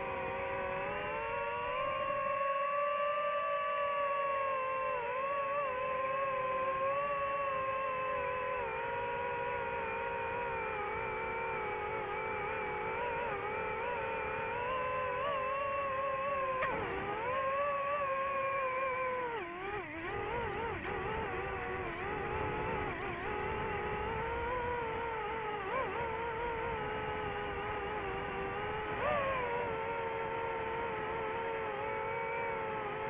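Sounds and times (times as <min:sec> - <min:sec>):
boat motor whining: 0:00.0 - 0:33.0.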